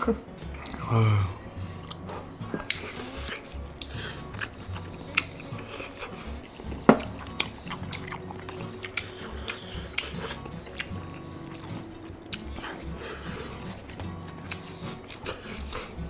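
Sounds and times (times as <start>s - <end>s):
chewing and wet mouth noises: 0.0s - 16.0s
quiet background music: 0.0s - 16.0s.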